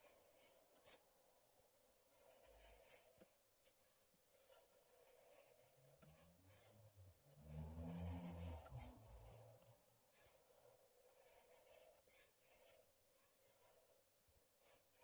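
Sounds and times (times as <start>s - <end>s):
marker scratching on paper: 0.0s - 6.9s, 7.5s - 15.0s.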